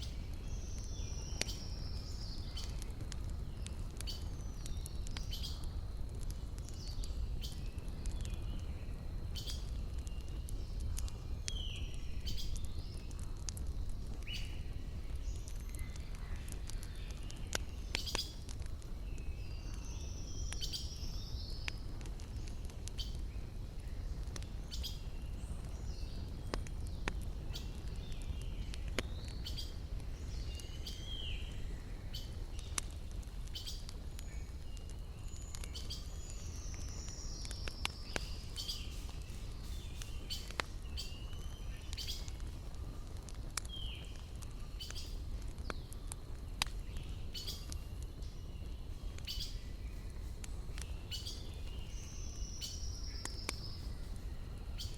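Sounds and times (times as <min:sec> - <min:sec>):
burning wood popping: 0:00.0 - 0:54.9
campfire crackling: 0:00.0 - 0:54.9
birds chirping: 0:06.6 - 0:54.9.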